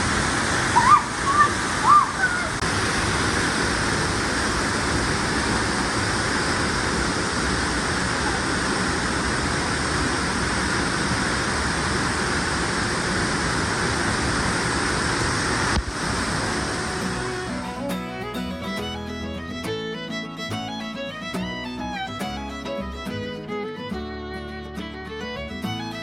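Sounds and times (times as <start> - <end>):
waterfall rushing: 0.0 - 23.9, 25.0 - 26.0.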